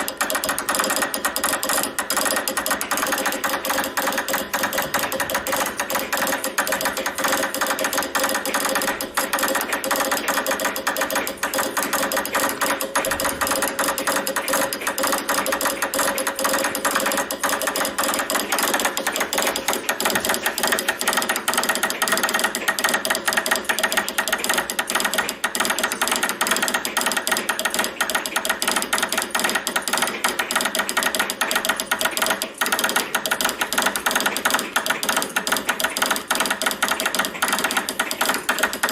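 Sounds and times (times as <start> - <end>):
telegraph key clicking: 0.0 - 38.9.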